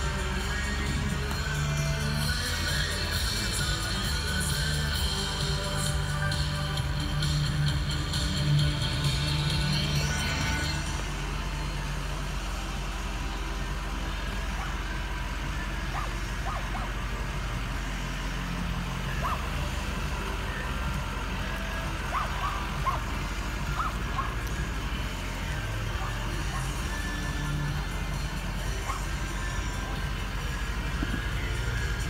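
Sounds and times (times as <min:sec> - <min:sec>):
car engine humming: 0:00.0 - 0:32.0.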